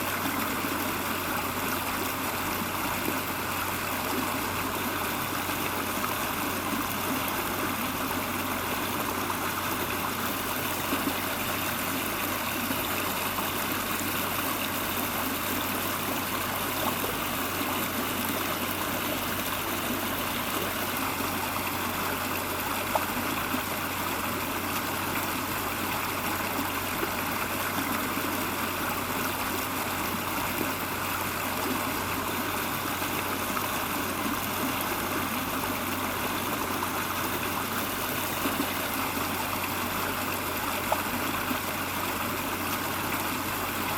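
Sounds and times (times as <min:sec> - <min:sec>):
flowing water: 0:00.0 - 0:43.9.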